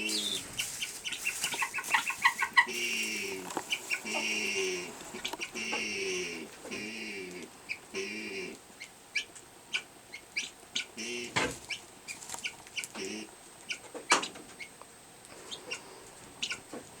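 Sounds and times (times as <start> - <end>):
guinea hen calling: 0.0 - 16.8.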